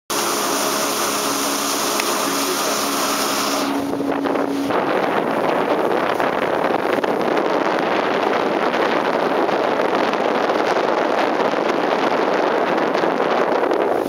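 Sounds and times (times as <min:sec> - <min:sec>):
outboard motor running: 0:00.1 - 0:14.0
rush of wind and water: 0:00.1 - 0:14.0.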